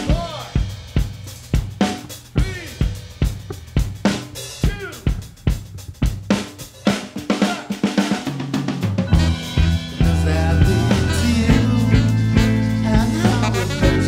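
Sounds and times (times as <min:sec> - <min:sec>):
drum kit playing: 0:00.0 - 0:14.0
live band playing: 0:00.0 - 0:14.0.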